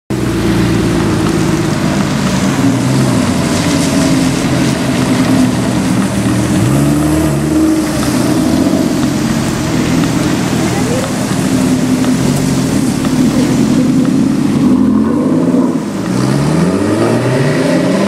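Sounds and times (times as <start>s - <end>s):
car engine running: 0.1s - 18.0s
tyres hissing on wet road: 0.1s - 18.0s.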